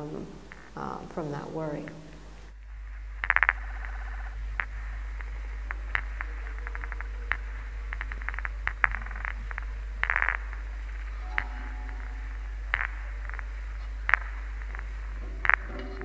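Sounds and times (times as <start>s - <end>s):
steady low hum: 0.0s - 16.0s
sharp clicks and crackles: 3.0s - 16.0s.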